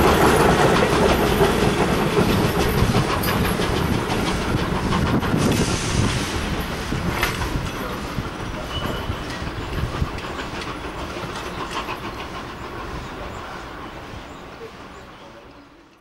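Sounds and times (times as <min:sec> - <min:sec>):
steam train pulling away: 0:00.0 - 0:16.0
train wheels clacking over rail joints: 0:00.0 - 0:16.0.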